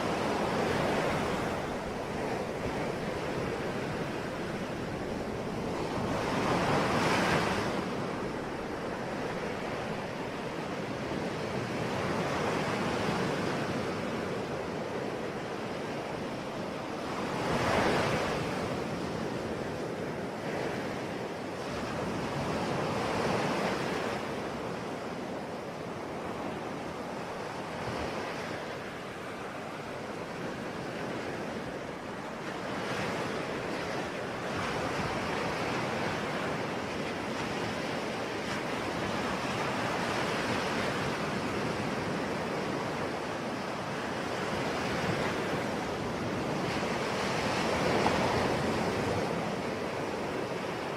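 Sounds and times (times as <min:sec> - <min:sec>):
ocean waves breaking on shore: 0:00.0 - 0:50.9.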